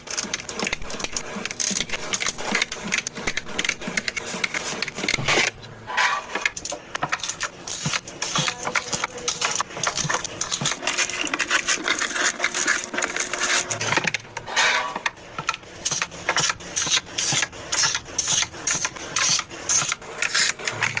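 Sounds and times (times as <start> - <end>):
items handled clicking and knocking: 0.0 - 21.0.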